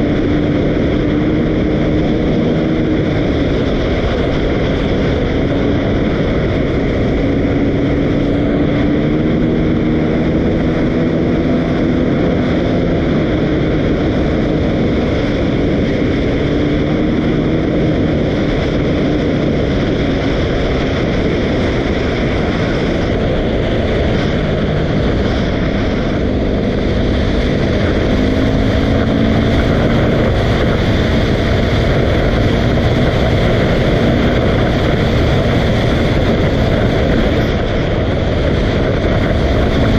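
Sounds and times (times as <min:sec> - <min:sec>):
dirt bike engine running: 0:00.0 - 0:39.9
loud rushing noise: 0:00.0 - 0:39.9.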